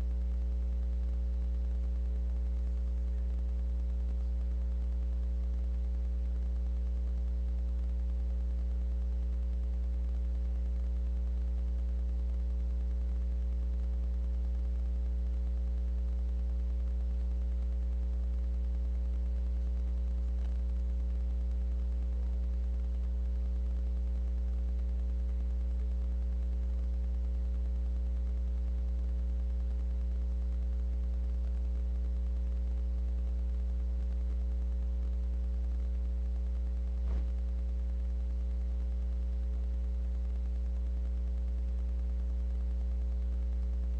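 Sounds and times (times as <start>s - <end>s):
low electrical hum: 0.0s - 43.9s.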